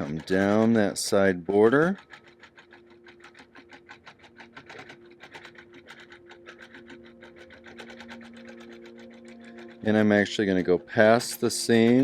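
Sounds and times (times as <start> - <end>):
sewing machine motor hum: 0.0 - 12.0
sewing machine needle ticking: 0.0 - 12.0.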